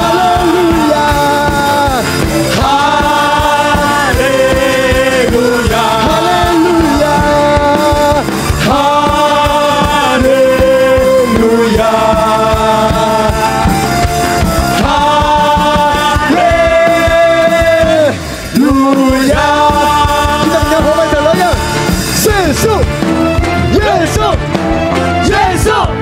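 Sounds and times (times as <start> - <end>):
full band playing: 0.0 - 26.0
voices singing held notes: 0.0 - 26.0.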